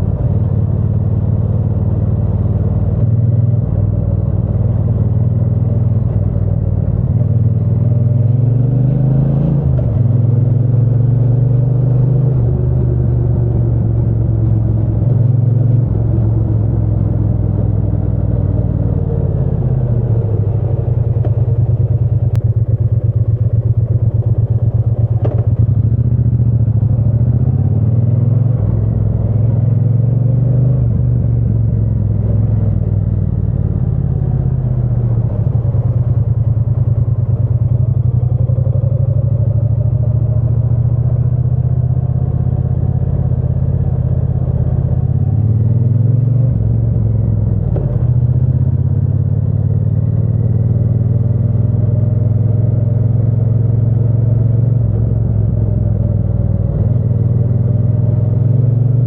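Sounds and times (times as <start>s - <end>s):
motorcycle engine revving: 1.6s - 59.0s.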